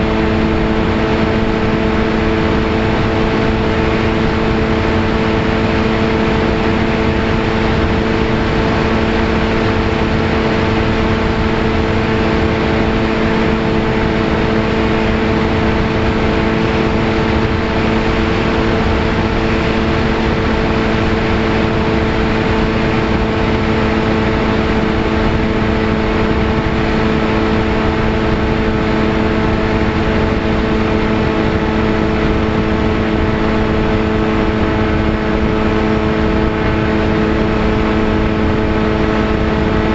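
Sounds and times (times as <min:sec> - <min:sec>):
electric motor and propeller droning: 0:00.0 - 0:39.9
wind rush on microphone: 0:00.0 - 0:39.9.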